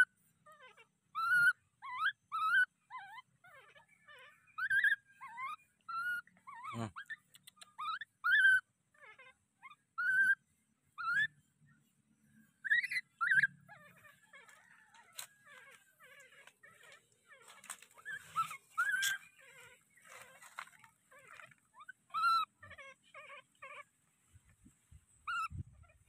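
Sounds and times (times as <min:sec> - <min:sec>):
baby monkey whimpering: 0:00.0 - 0:10.4, 0:11.0 - 0:11.4, 0:12.6 - 0:24.0, 0:25.2 - 0:26.0.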